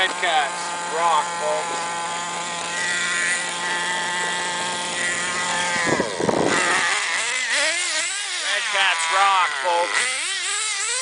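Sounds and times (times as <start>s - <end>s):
toy truck motor whining: 0.0s - 11.0s.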